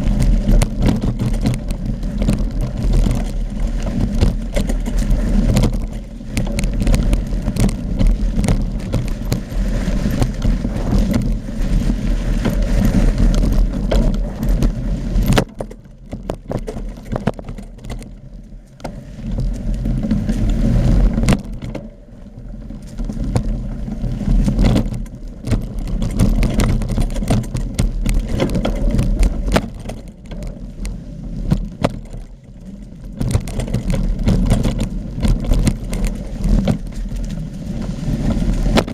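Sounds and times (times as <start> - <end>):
bike rattling over dirt trail: 0.0 - 38.9
wind buffeting microphone: 0.0 - 38.9.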